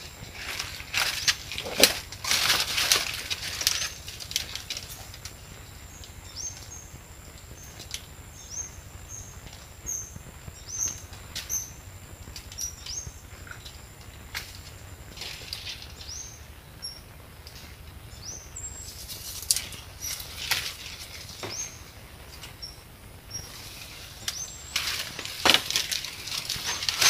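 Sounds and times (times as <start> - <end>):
dry fronds and brush rustling: 0.0 - 27.0.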